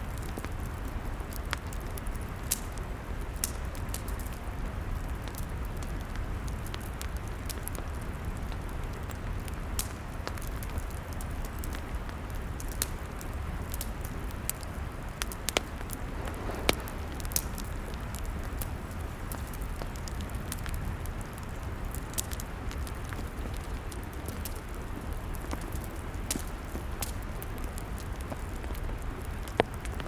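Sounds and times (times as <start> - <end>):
low rumble of flames: 0.0 - 30.0
wood crackling and popping: 0.2 - 30.0.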